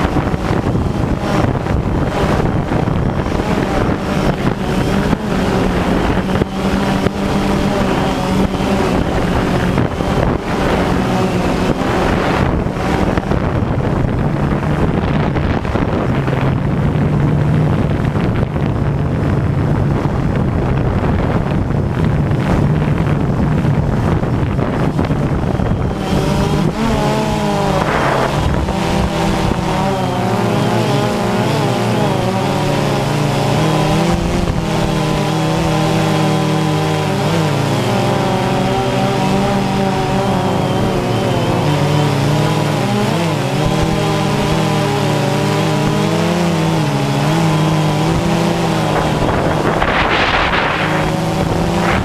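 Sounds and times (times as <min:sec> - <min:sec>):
drone propellers buzzing: 0:00.0 - 0:52.0
wind noise on microphone: 0:00.0 - 0:52.0.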